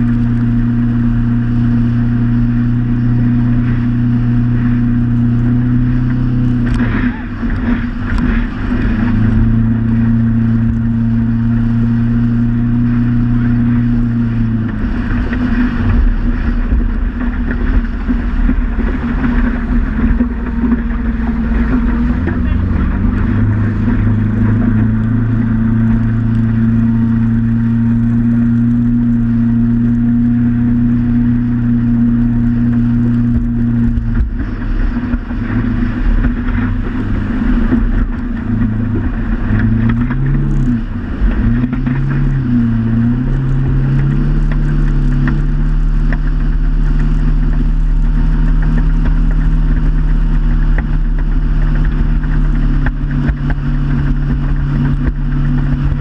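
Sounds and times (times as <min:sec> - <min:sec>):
motorboat engine running: 0:00.0 - 0:56.0
rush of wind and water: 0:00.0 - 0:56.0.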